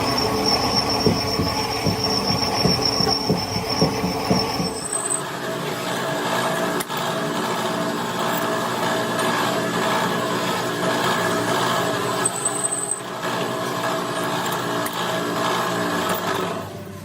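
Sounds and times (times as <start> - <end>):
power tool whining: 0.0 - 16.7.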